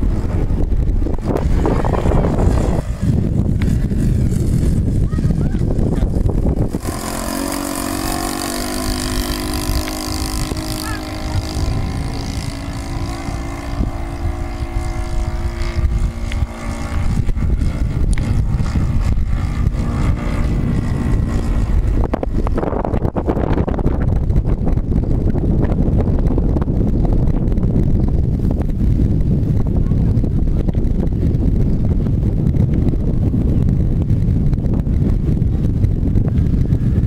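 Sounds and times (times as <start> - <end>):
model plane engine running: 0.0 - 32.1
wind rumbling on microphone: 0.0 - 37.0.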